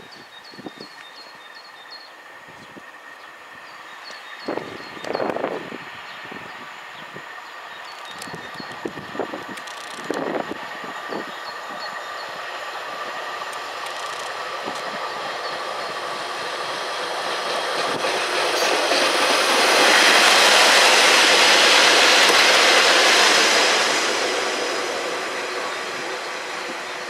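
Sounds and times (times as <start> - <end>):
diesel railbus passing: 0.0 - 27.0.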